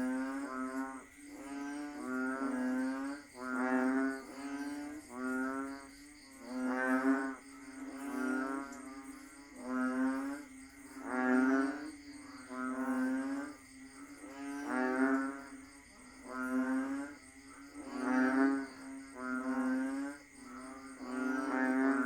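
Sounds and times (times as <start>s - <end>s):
frogs giving low droning calls: 0.0s - 22.0s.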